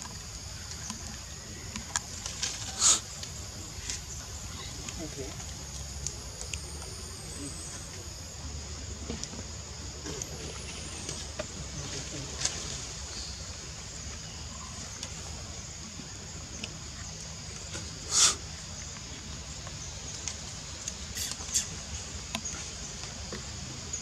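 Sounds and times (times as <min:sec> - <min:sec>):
high-pitched hiss: 0:02.4 - 0:24.0.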